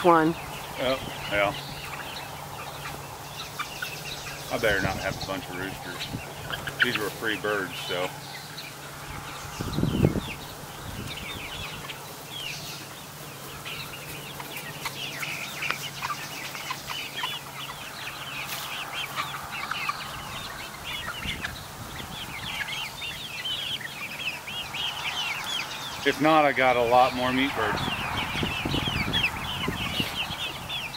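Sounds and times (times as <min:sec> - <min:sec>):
chicks clucking and peeping: 0:00.0 - 0:30.9.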